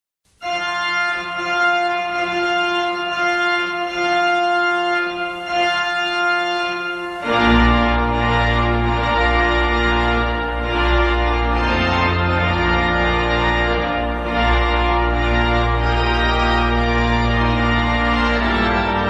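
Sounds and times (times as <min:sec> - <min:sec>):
organ music: 0:00.4 - 0:19.0.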